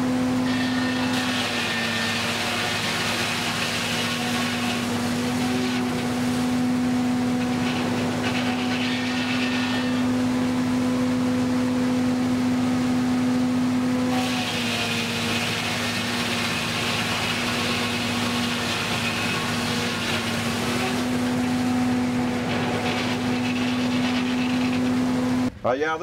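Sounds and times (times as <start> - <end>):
hiss of sawing through log: 0.0 - 10.4, 14.0 - 25.3
circular saw blade hum: 0.0 - 25.5.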